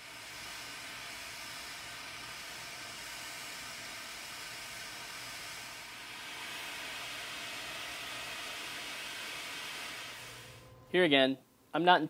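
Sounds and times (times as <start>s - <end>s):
gas torch hissing: 0.0s - 10.7s.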